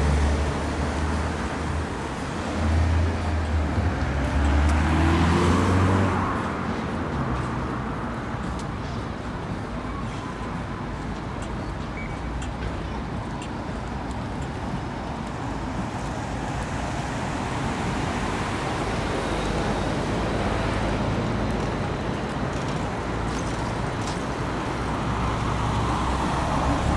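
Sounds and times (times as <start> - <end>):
road traffic hum: 0.0 - 26.9
vehicles passing: 0.0 - 26.9.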